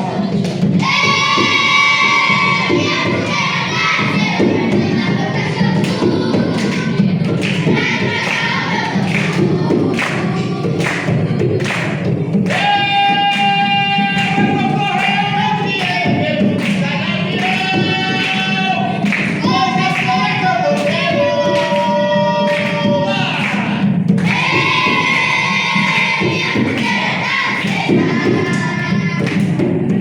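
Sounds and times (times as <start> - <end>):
drum strikes: 0.0 - 30.0.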